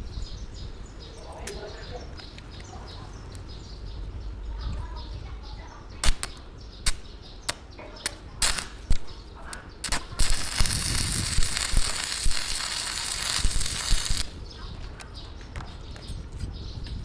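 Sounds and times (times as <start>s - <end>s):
dense crackling hiss: 0.0s - 15.3s.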